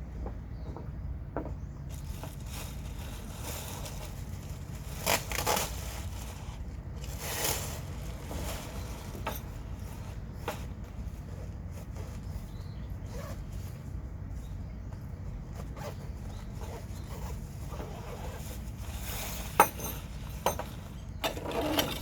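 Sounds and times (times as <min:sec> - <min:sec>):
scraping and rustling: 0:01.9 - 0:22.0.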